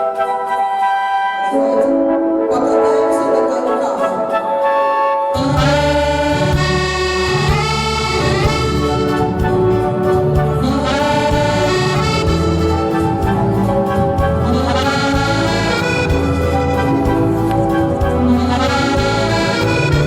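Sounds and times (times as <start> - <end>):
orchestral waltz with brass: 0.0 - 20.0.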